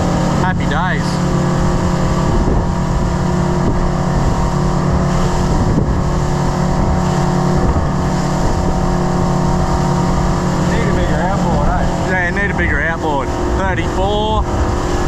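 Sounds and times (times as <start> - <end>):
outboard motor droning: 0.0 - 15.0
rush of wind and water: 0.0 - 15.0.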